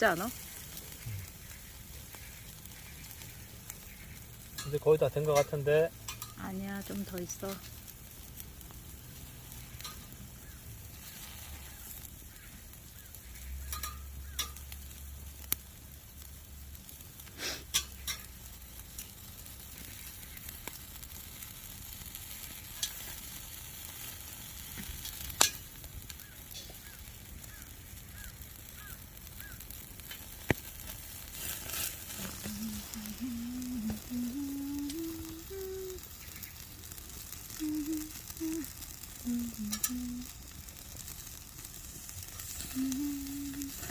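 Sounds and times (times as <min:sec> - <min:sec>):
fat popping in flames: 0:00.0 - 0:43.9
meat sizzling on a grill: 0:00.0 - 0:43.9.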